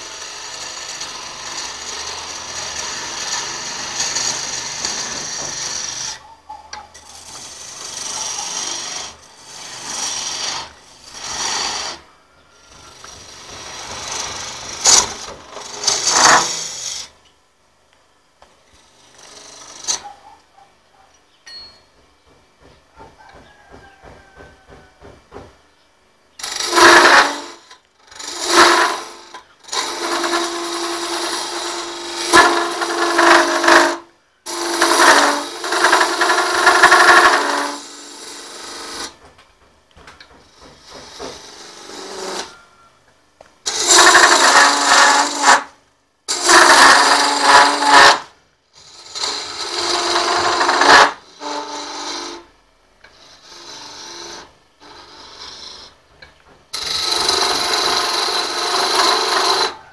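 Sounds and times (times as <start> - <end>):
tool cutting wood on lathe: 0.0 - 17.2, 18.6 - 20.2, 26.4 - 39.3, 40.4 - 42.7, 43.6 - 56.0, 56.7 - 59.9.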